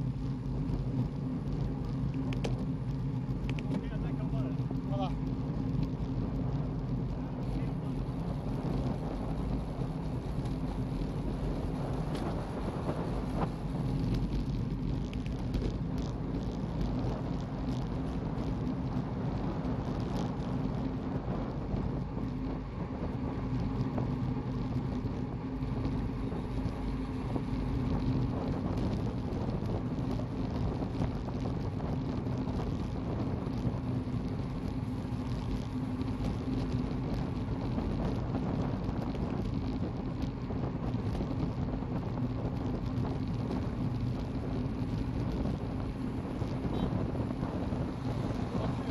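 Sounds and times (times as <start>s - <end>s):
low road rumble: 0.0s - 48.9s
wind rushing over microphone: 0.0s - 48.9s.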